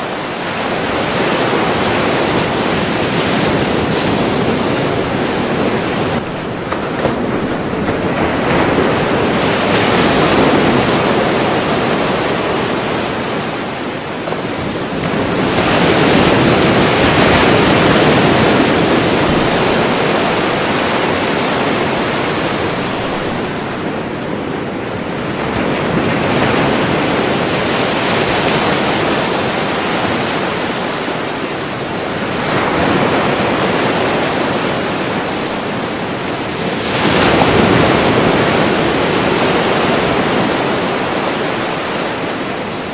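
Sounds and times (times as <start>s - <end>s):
ocean waves crashing: 0.0s - 42.9s.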